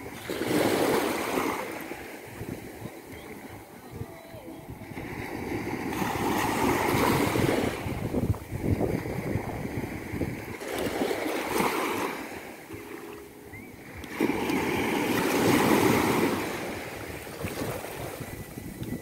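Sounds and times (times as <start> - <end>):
sea waves breaking on beach: 0.0 - 19.0.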